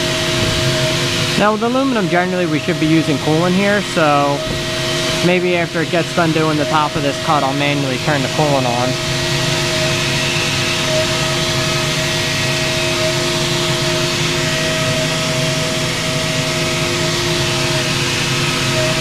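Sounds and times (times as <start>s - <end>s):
machining noise: 0.0s - 19.0s
milling machine spindle whine: 0.0s - 19.0s.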